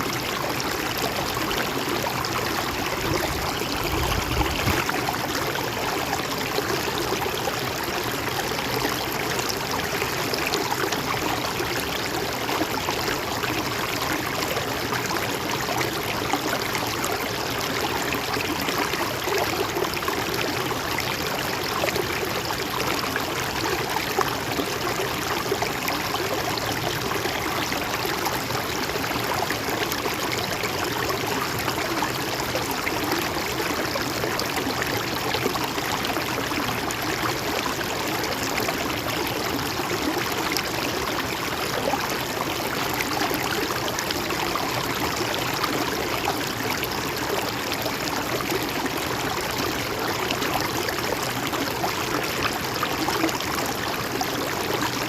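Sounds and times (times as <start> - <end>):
stream of water trickling: 0.0 - 55.0.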